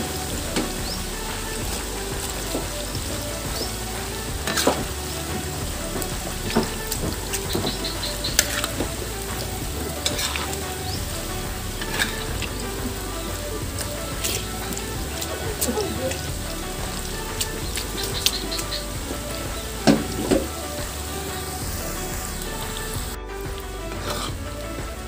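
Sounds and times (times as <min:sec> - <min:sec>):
deep-frying sizzle: 0:00.0 - 0:25.0
oil popping and crackling: 0:00.0 - 0:25.0.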